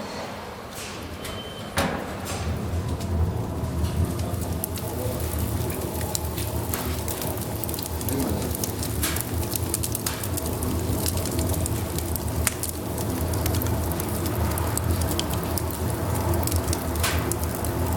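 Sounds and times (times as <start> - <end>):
low fire rumble: 1.6 - 17.9
fire crackling and popping: 2.1 - 17.9.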